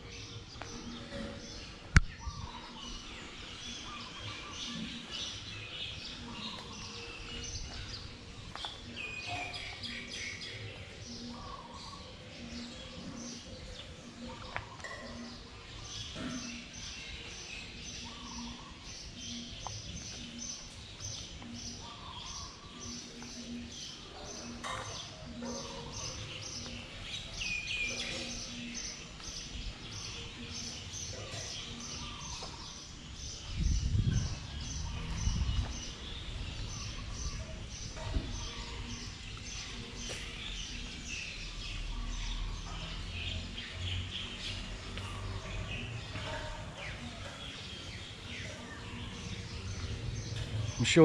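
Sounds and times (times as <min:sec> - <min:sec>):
birds chirping and calling: 0:00.0 - 0:51.0.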